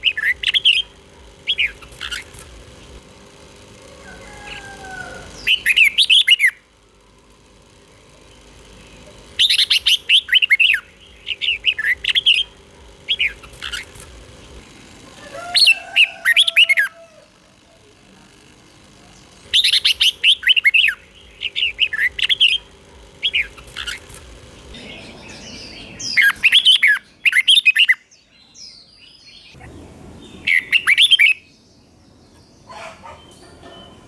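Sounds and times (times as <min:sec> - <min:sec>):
bird singing: 0:00.0 - 0:03.0, 0:03.9 - 0:06.7, 0:07.8 - 0:17.3, 0:18.7 - 0:34.0.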